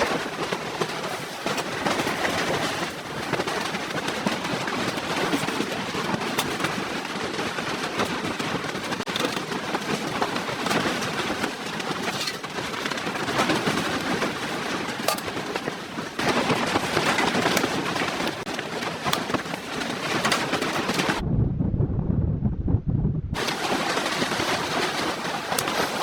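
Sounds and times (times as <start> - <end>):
blizzard wind blowing hard: 0.0 - 26.0.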